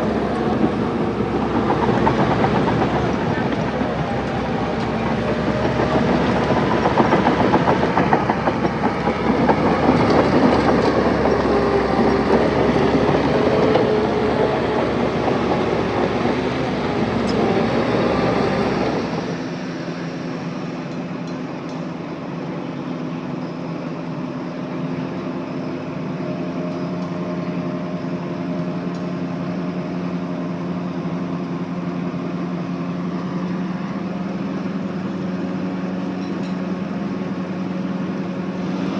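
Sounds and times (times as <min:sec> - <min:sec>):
diesel machinery engine: 0:00.0 - 0:38.9.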